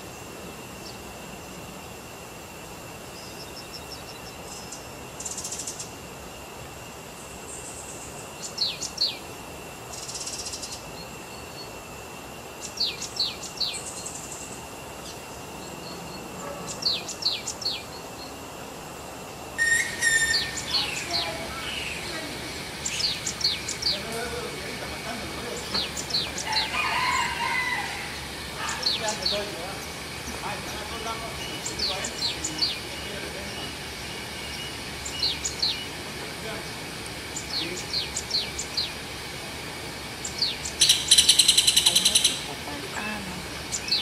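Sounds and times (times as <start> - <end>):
birds chirping: 0.0 - 2.1, 2.9 - 6.0, 7.1 - 44.0
high insect drone: 0.0 - 44.0.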